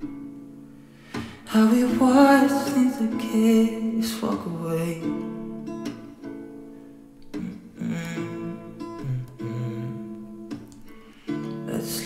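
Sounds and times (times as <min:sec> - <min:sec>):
guitar chords in pop song: 0:00.0 - 0:12.0.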